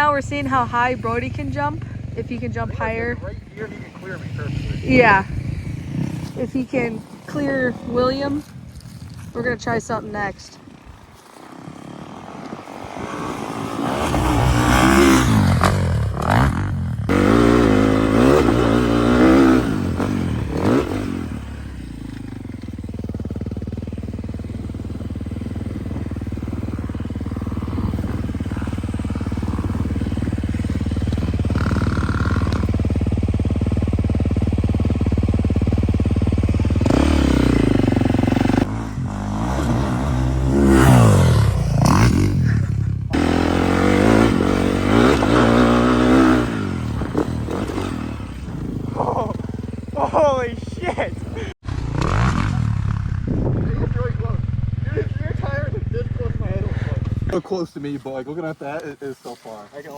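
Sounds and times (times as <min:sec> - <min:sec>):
atv engine revving: 0:00.0 - 0:58.8.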